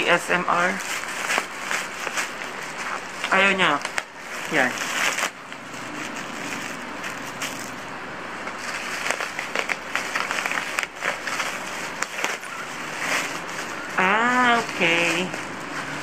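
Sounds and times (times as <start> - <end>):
bubble wrap crinkling and tearing: 0.0 - 16.0.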